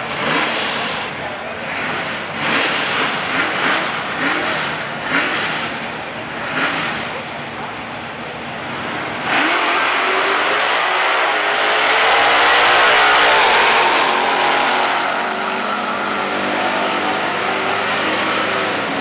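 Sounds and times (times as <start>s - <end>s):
drag cars launching: 0.0s - 19.0s.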